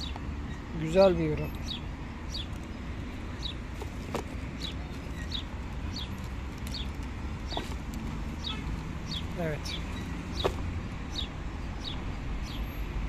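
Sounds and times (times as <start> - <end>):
bird chirping: 0.0 - 12.8.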